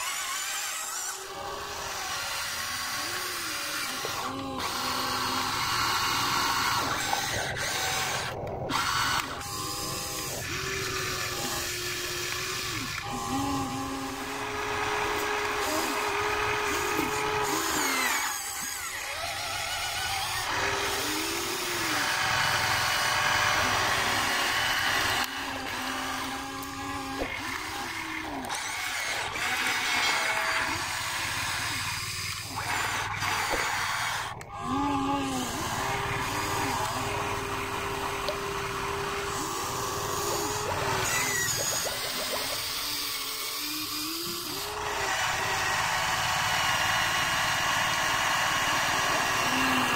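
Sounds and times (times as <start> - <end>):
electric gear motors whining: 0.0 - 49.9.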